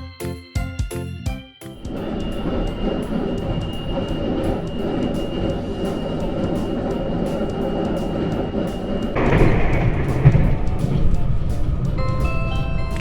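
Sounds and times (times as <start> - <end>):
train rumble and rolling noise: 1.7 - 13.0
thin high whine: 1.8 - 13.0.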